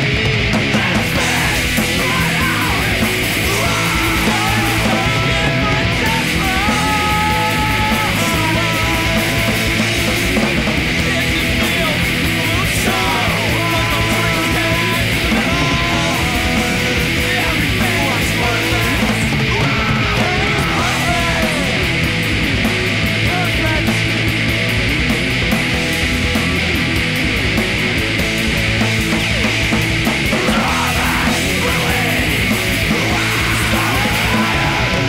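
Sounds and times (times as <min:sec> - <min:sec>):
punk rock band with distorted guitars: 0:00.0 - 0:35.0.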